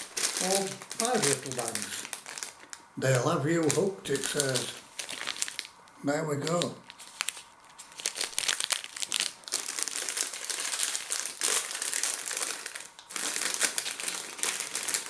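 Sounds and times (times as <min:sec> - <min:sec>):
crisp packet crinkling: 0:00.0 - 0:15.0.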